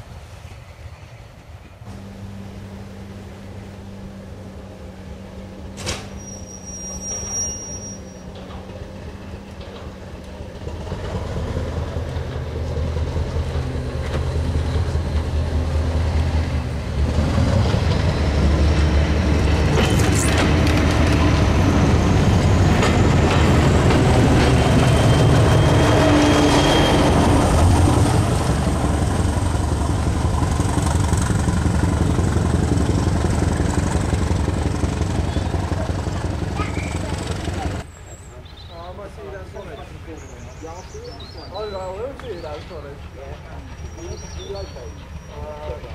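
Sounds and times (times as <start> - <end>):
diesel train engine passing: 0.0 - 45.9.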